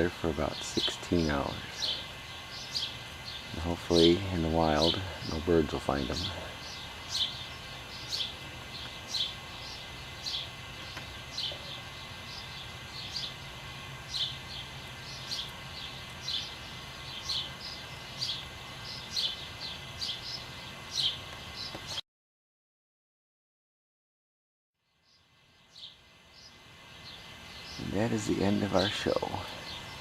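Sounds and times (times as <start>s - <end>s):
steady low hum: 0.0s - 21.7s, 25.4s - 30.0s
bird chirping: 0.0s - 22.0s, 24.9s - 30.0s.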